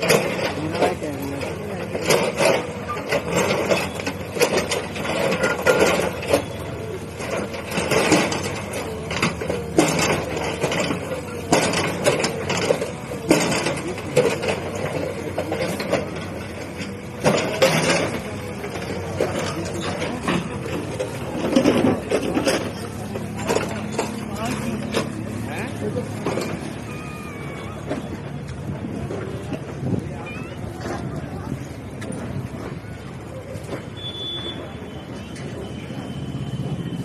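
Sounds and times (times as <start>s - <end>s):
bulldozer knocking down masonry: 0.0s - 34.8s
bulldozer engine running: 0.0s - 37.0s.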